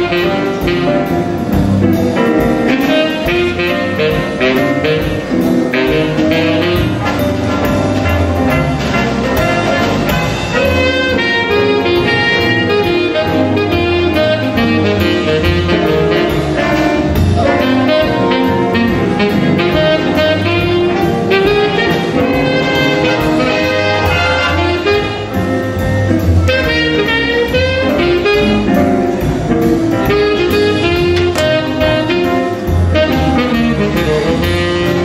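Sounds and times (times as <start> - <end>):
live jazz band playing: 0.0 - 35.0.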